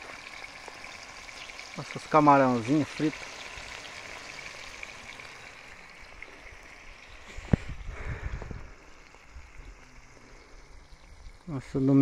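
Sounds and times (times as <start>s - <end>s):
shrimp sizzling in hot oil: 0.0s - 12.0s.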